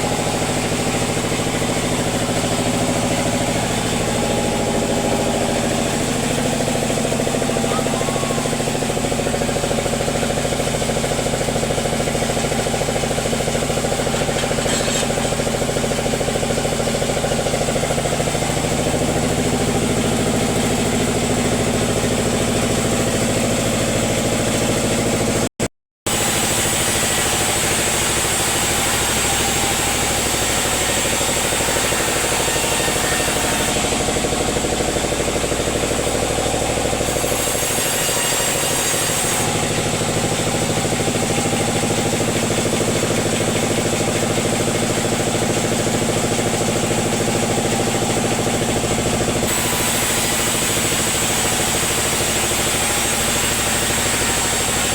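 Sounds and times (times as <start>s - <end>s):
sawmill engine running: 0.0s - 25.5s, 26.1s - 54.9s.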